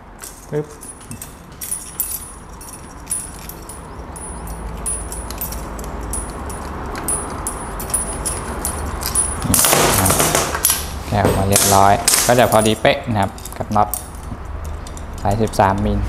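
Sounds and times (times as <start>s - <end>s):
metal clatter: 0.2s - 15.9s.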